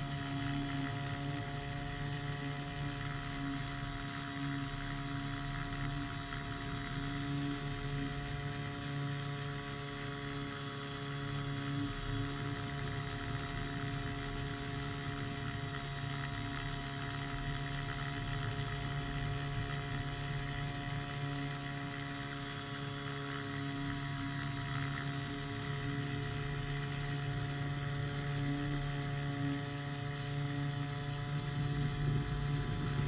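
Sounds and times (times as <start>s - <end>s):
aircraft engine drone: 0.0s - 33.0s.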